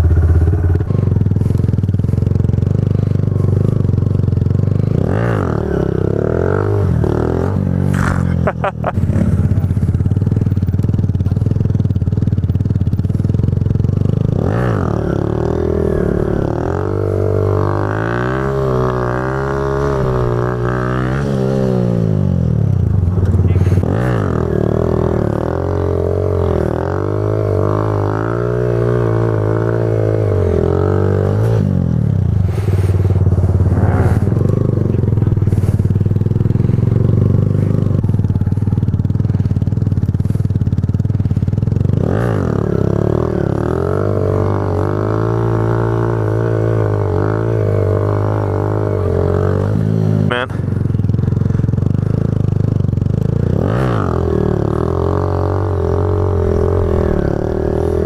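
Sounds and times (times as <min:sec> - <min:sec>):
small motorcycle engine running: 0:00.0 - 0:58.0.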